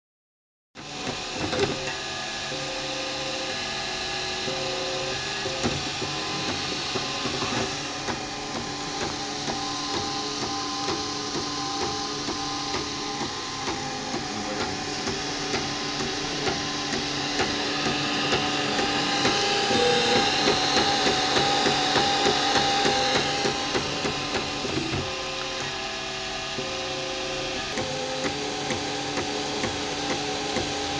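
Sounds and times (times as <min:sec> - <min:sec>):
cooling fans whirring: 0:00.8 - 0:30.9
stepper motors whining: 0:00.9 - 0:30.9.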